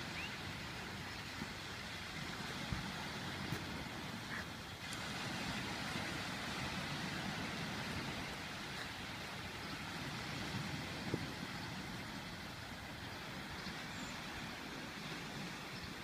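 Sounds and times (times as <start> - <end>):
small waves washing onto beach: 0.0 - 16.0
wind rumbling on microphone: 0.0 - 16.0.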